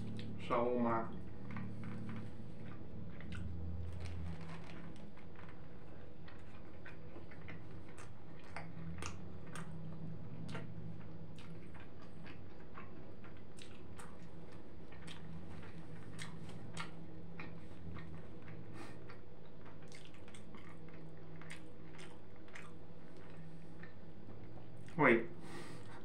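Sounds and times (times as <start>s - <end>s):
man chewing food: 0.0s - 0.4s, 1.1s - 26.0s
low hum: 0.0s - 26.0s.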